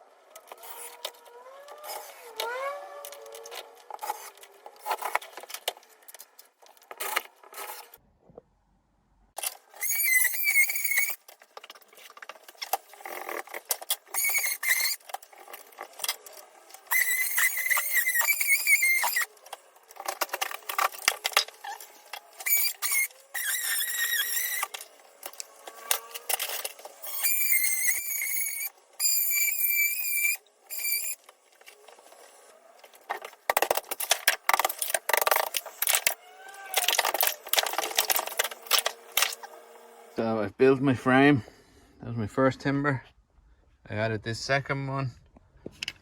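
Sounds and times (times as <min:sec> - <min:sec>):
clicks and scraping: 0:00.3 - 0:08.4, 0:09.4 - 0:39.6.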